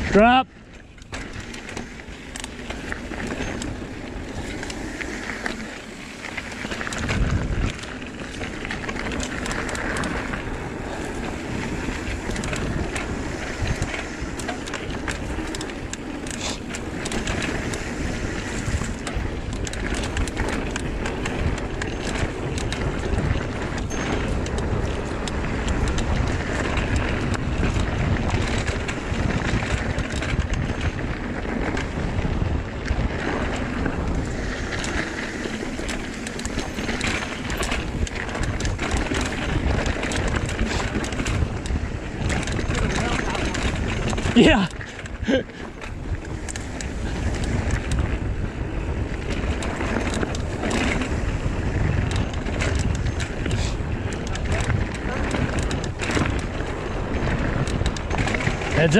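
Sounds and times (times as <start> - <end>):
bike rattling: 0.0 - 58.9
tyres running over dirt and rock: 0.0 - 58.9
wind buffeting microphone: 0.0 - 58.9.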